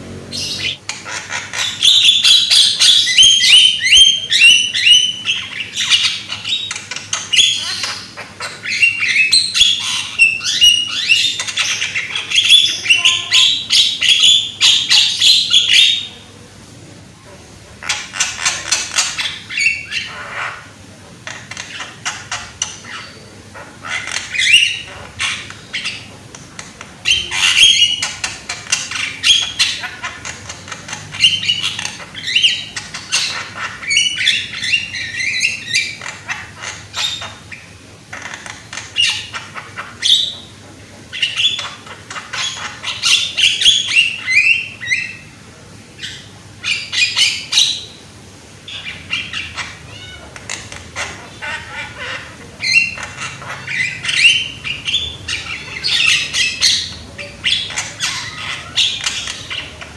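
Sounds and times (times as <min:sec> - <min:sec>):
myna squawking and chattering: 0:00.0 - 0:16.2, 0:17.3 - 0:45.3, 0:48.6 - 0:59.9.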